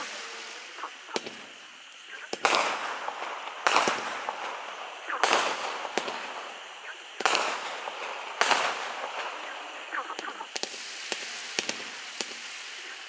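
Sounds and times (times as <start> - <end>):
fireworks shots: 0.0 - 13.0
small firework cracks: 0.0 - 13.0.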